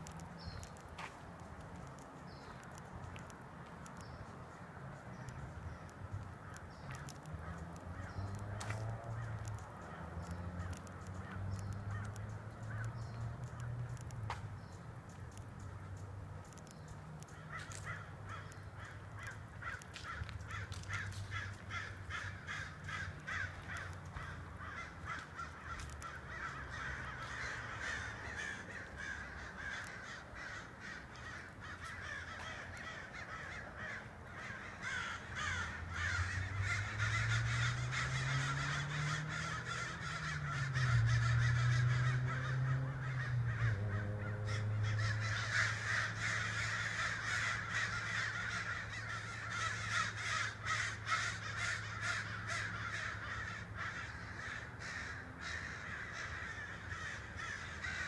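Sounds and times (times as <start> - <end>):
crows cawing: 5.7 - 14.1, 17.2 - 58.0.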